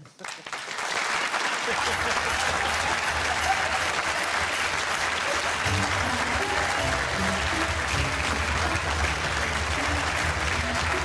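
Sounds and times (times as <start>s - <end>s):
audience applauding: 0.0s - 11.0s
entrance music: 1.8s - 11.0s.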